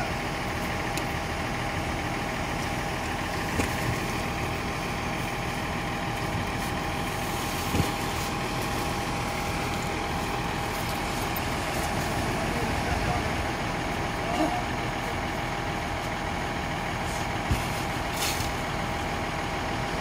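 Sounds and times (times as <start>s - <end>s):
constant whine: 0.0s - 20.0s
diesel engine idling: 0.0s - 20.0s.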